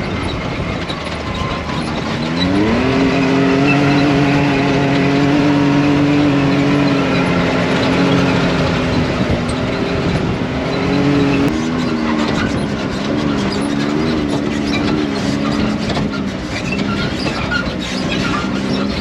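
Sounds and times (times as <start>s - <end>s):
car engine hum: 0.0s - 19.0s
road noise: 0.0s - 19.0s.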